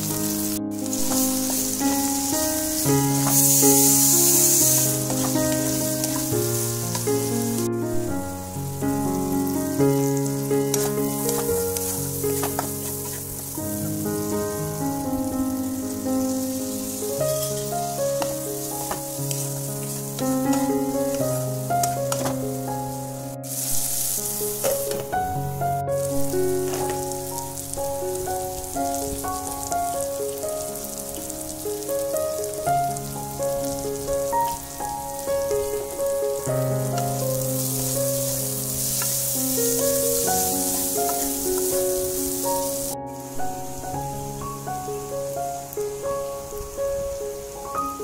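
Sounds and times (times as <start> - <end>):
vegetables sizzling in oil: 0.0 - 44.4
simple melody background music: 0.0 - 48.0.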